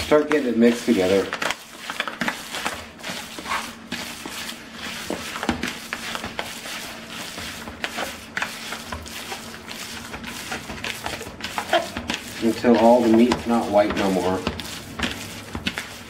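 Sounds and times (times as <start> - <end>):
hand squishing raw meat: 0.0 - 16.0.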